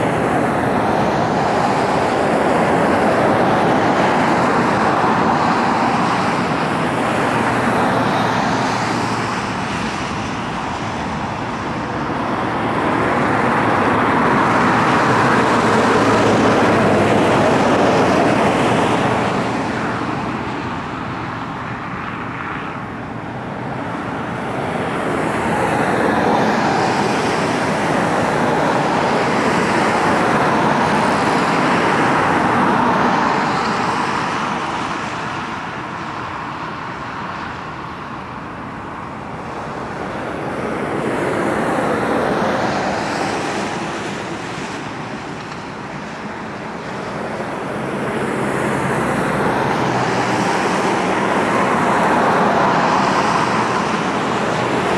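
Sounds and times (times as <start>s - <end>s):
airliner taxiing close: 0.0s - 54.9s
jet engines rushing at takeoff: 0.0s - 54.9s.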